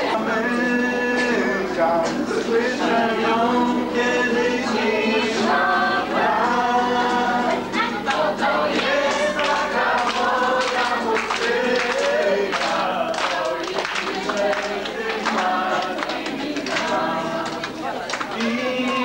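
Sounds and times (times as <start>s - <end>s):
group of people singing: 0.0s - 19.0s.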